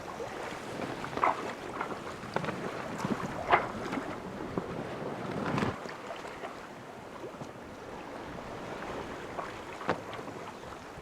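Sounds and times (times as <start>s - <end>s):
water washing against boat hull: 0.0s - 11.0s.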